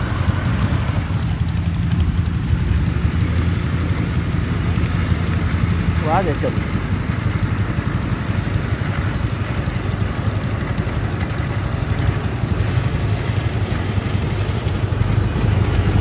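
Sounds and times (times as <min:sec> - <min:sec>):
farm machinery engine droning: 0:00.0 - 0:16.0.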